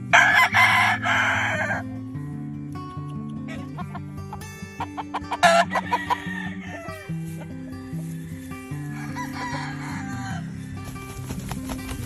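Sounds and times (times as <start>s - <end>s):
rooster crowing and clucking: 0.0s - 2.0s, 3.5s - 12.0s
background music with bass line: 0.0s - 12.0s.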